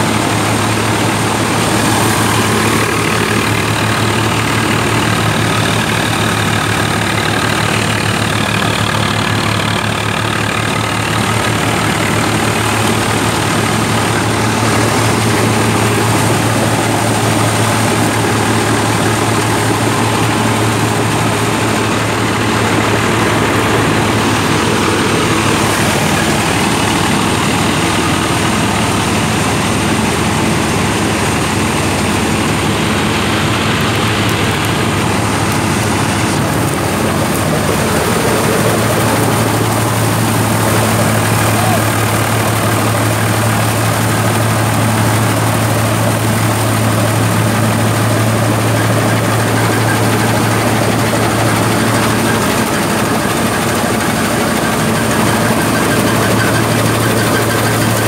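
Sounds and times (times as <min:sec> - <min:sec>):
reaper machine noise: 0:00.0 - 0:58.0
tractor engine under load: 0:00.0 - 0:58.0.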